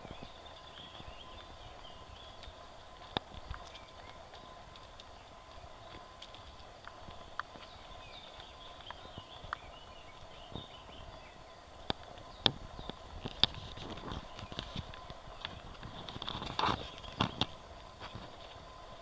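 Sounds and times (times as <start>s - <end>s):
footsteps on dirt path: 0.0s - 19.0s.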